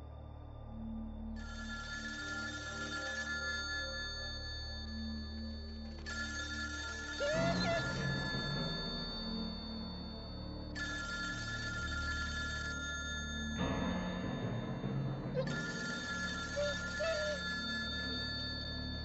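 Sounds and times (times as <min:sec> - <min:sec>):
telephone bell ringing: 0:01.4 - 0:14.3, 0:15.4 - 0:19.0.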